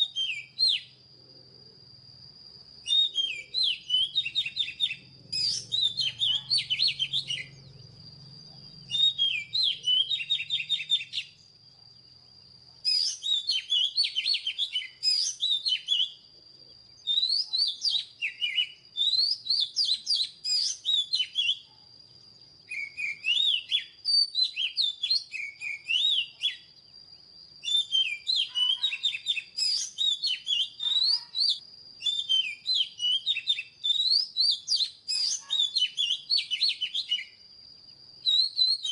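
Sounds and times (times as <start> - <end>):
bird singing whistled notes: 0.0 - 1.0, 2.0 - 38.9.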